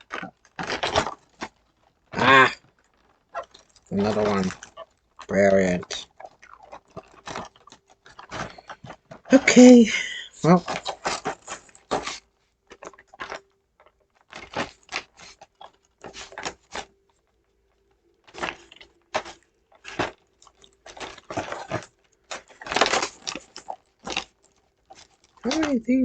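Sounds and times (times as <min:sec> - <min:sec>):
packaging rustling: 0:00.0 - 0:26.0
plastic parts clicking and rattling: 0:00.0 - 0:26.0.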